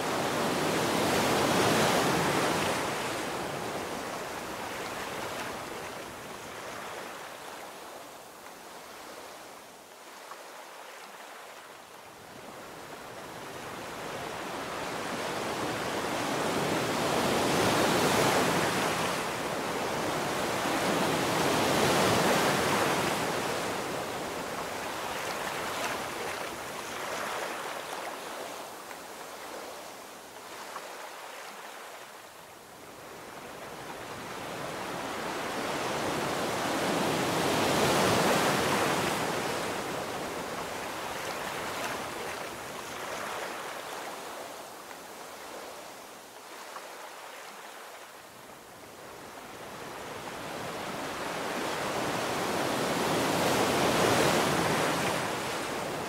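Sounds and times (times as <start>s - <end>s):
waves breaking and washing in: 0.0s - 56.0s.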